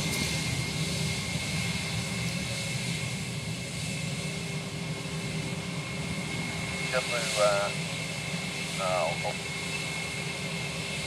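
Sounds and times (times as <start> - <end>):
jet engines running with high whine: 0.0 - 11.0.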